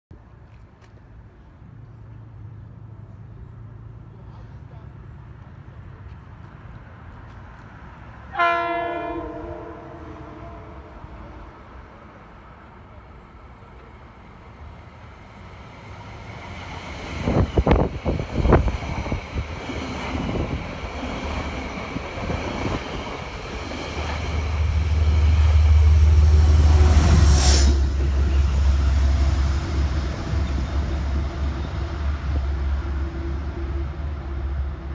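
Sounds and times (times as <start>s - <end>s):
train rumbling past: 0.1s - 34.9s.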